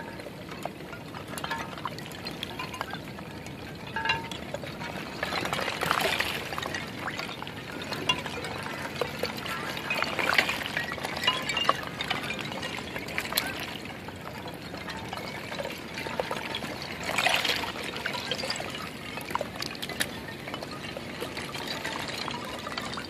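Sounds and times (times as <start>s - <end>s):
ice chunks clinking together: 0.0s - 23.0s
small waves sloshing: 0.0s - 23.0s.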